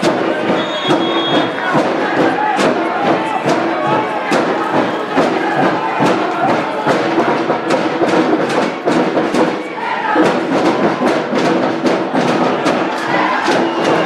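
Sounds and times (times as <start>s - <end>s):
music with quick drumbeat: 0.0s - 14.0s.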